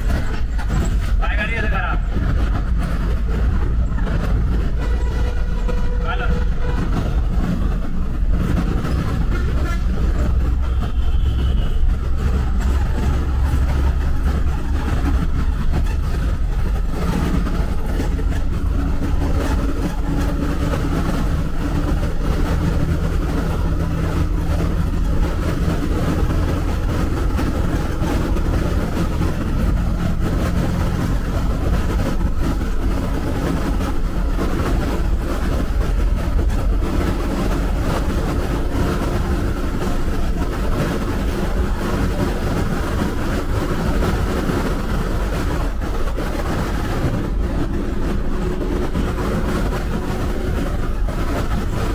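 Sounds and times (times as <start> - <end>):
bus engine and tyres droning: 0.0 - 51.9.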